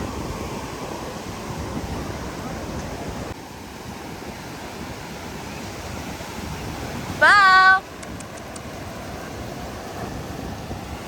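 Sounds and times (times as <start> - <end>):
ocean surf washing in: 0.0 - 11.0
wind buffeting microphone: 0.0 - 11.0.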